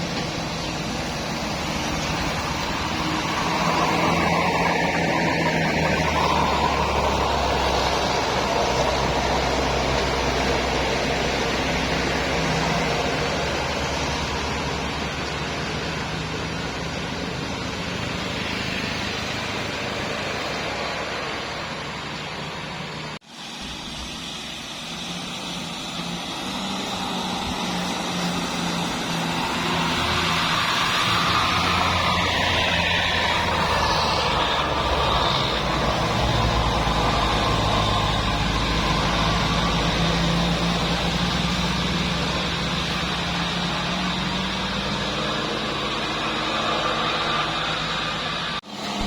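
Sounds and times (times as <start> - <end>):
passing traffic: 0.0 - 49.0.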